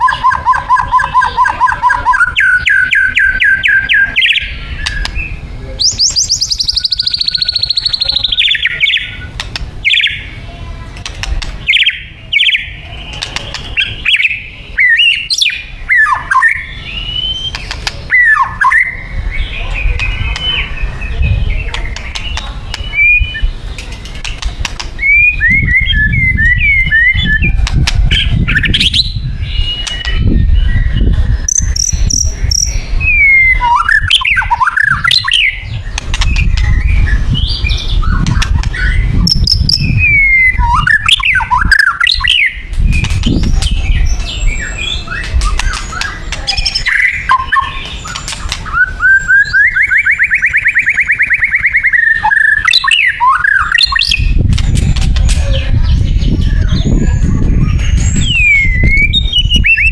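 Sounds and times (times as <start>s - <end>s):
bird singing whistled song: 0.0s - 10.3s, 11.6s - 23.5s, 25.0s - 54.4s, 55.2s - 59.9s.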